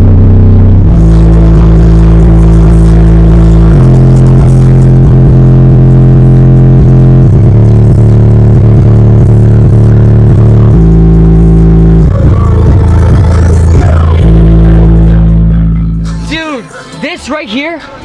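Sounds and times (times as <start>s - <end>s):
bass-heavy music through subwoofers: 0.0s - 17.2s.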